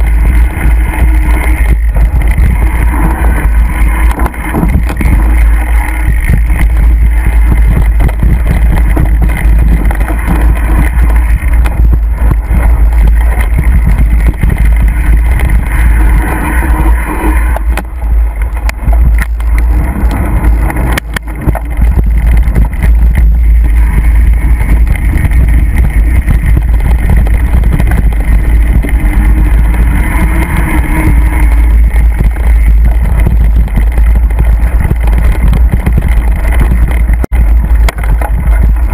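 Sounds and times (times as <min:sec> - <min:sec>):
bike knocking over bumps: 0:00.0 - 0:38.9
wind rumble on microphone: 0:00.0 - 0:38.9.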